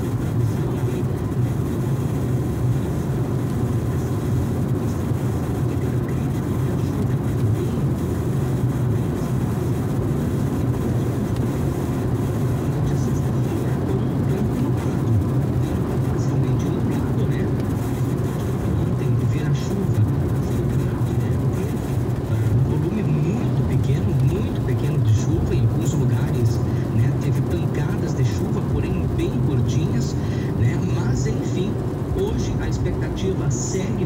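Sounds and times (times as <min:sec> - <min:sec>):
car cabin road and engine rumble: 0:00.0 - 0:34.0.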